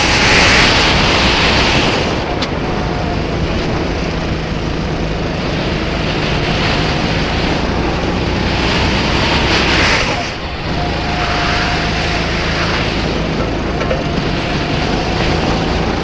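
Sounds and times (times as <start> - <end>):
kart engine at racing speed: 0.0 - 16.0
wind noise on microphone: 0.0 - 16.0.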